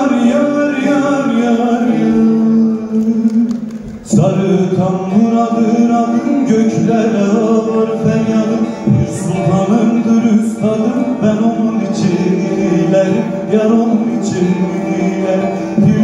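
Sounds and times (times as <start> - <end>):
long-necked lute playing: 0.0 - 16.0
man singing ornamented notes: 0.0 - 16.0.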